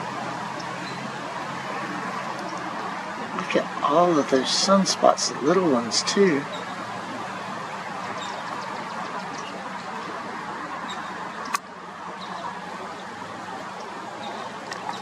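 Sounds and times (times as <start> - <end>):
distant traffic: 0.0 - 15.0.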